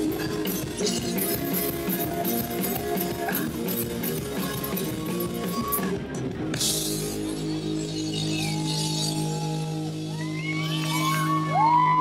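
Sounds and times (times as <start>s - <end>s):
drum kit with cymbals: 0.0s - 11.7s
electric guitars: 0.0s - 12.0s.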